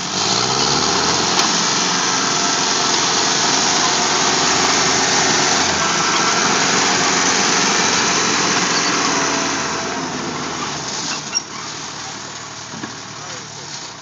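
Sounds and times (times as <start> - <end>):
loud engine noise: 0.0 - 14.0.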